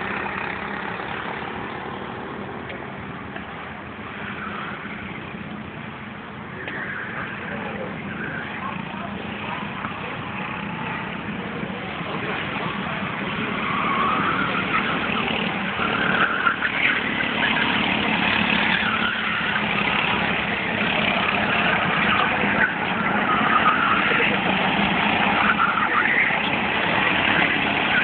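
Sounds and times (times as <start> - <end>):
go-kart engines: 0.0 - 28.0.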